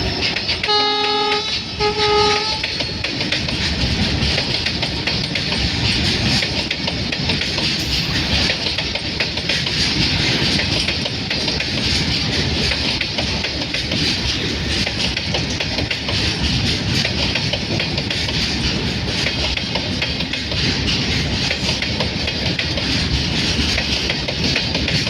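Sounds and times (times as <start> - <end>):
train rumble and hiss: 0.0 - 25.0
wheels clicking over rail joints: 0.0 - 25.0.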